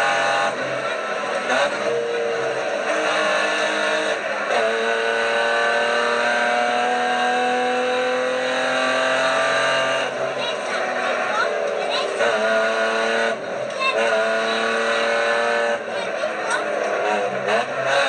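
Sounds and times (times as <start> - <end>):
car engine pulling under load: 0.0 - 18.0.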